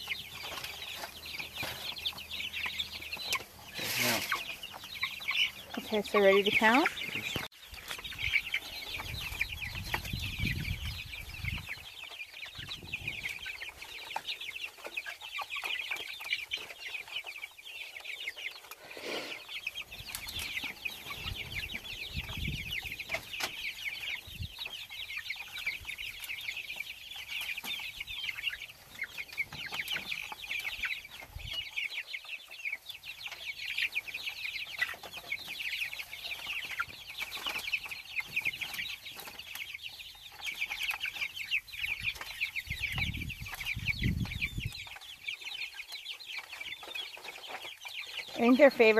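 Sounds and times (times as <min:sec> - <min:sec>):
chicks peeping: 0:00.0 - 0:48.9.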